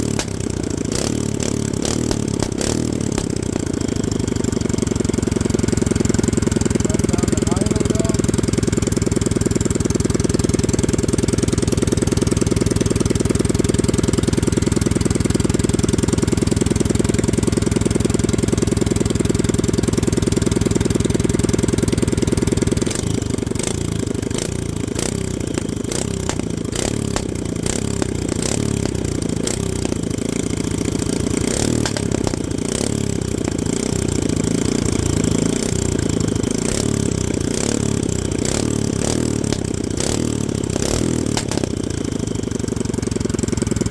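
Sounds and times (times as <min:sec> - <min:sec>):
engine popping: 0:00.0 - 0:43.9
small engine running: 0:00.0 - 0:43.9.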